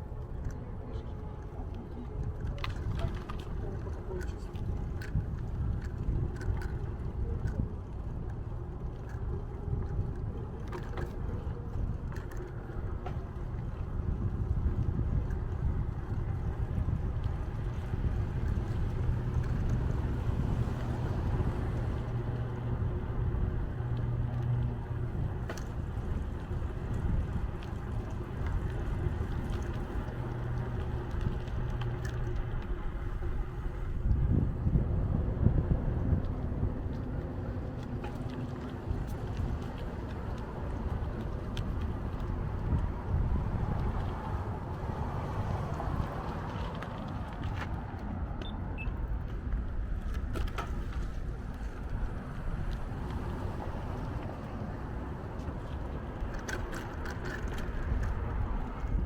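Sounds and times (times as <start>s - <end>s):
light clicks and rattles: 0.0s - 34.3s, 45.4s - 59.0s
bicycle tyre noise: 0.0s - 59.0s
road and traffic noise: 0.0s - 59.0s
wind buffeting microphone: 0.0s - 59.0s.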